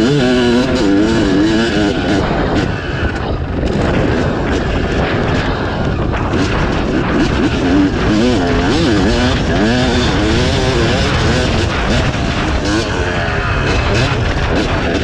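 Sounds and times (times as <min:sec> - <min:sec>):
two-stroke engine revving: 0:00.0 - 0:15.0
wind rushing over microphone: 0:00.0 - 0:15.0.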